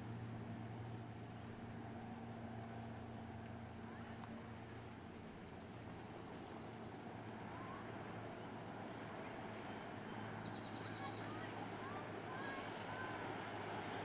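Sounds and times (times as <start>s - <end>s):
distant motorboat engine droning: 0.0s - 14.0s.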